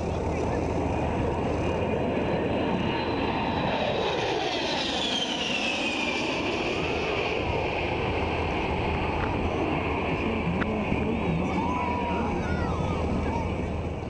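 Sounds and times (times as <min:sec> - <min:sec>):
jet flying past overhead: 0:00.0 - 0:14.0.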